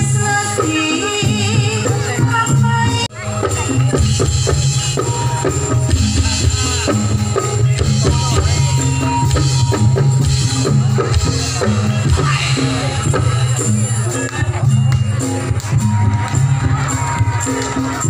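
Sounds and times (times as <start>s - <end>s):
drums beating steady rhythm: 0.0s - 18.0s
gamelan ensemble: 0.0s - 18.0s.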